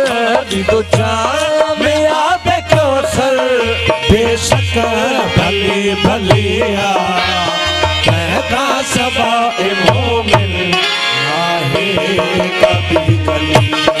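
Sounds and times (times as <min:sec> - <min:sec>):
harmonium melody: 0:00.0 - 0:14.0.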